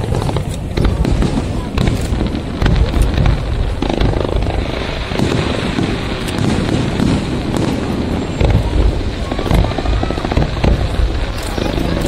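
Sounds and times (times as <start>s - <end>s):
fireworks booming: 0.0s - 12.0s
fireworks crackling: 0.0s - 12.0s.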